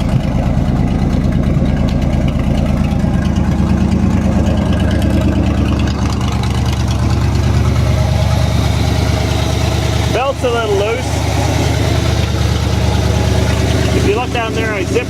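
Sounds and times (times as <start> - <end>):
pickup engine idling loudly: 0.0 - 15.0.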